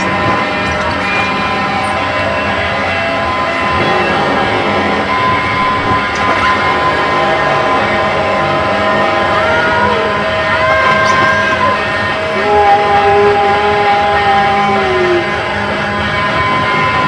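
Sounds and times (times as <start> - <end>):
harsh electronic noise music: 0.0 - 17.0.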